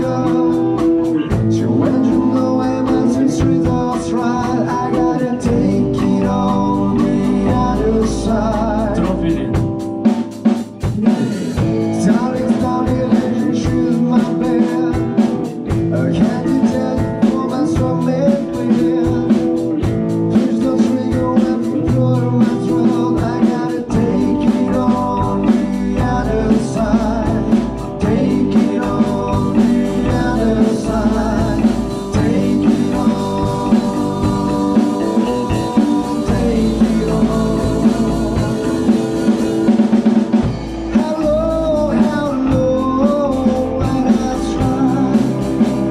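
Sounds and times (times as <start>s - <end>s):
drum kit beat: 0.0s - 45.9s
electric bass: 0.0s - 45.9s
electric guitar: 0.0s - 45.9s.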